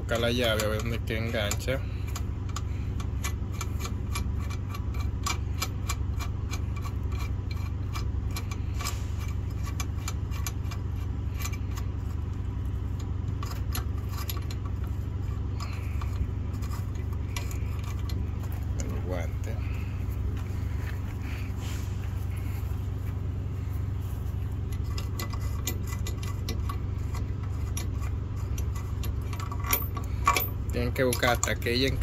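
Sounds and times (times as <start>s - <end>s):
metallic clicking and rubbing: 0.0s - 32.0s
steady low hum: 0.0s - 32.0s.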